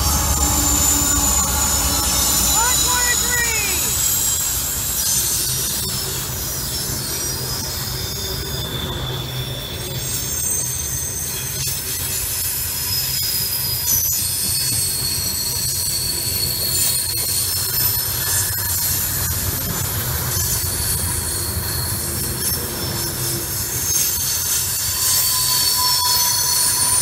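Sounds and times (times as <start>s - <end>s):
train low rumble: 0.0s - 27.0s
train wheels squealing: 0.0s - 27.0s.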